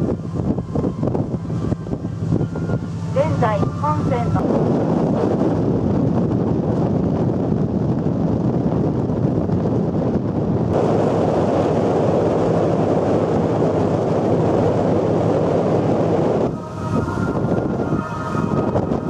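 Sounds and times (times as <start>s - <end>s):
low engine drone: 0.0s - 19.0s
wind and water rushing: 0.0s - 19.0s
wind buffeting microphone: 0.0s - 19.0s.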